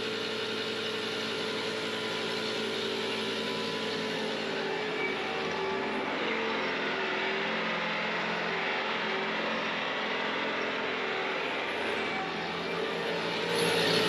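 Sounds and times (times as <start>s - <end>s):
diesel engine at full throttle: 0.0s - 14.0s
snowblower rushing: 0.0s - 14.0s.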